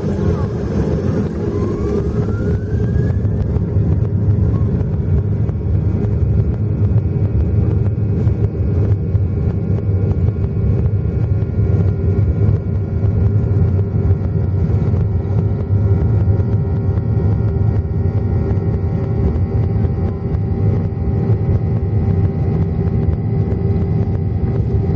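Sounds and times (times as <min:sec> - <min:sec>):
low engine rumble: 0:00.0 - 0:24.9
whining jet engine tones: 0:00.0 - 0:24.9.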